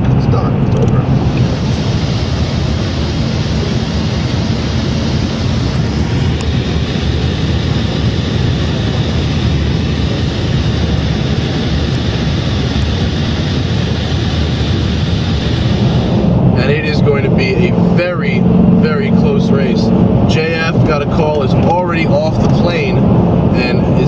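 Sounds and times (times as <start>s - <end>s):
car interior highway rumble: 0.0s - 24.0s.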